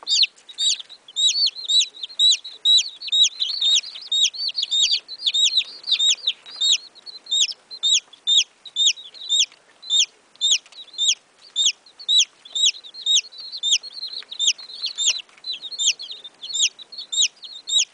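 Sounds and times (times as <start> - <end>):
baby chicks peeping: 0.0 - 17.9.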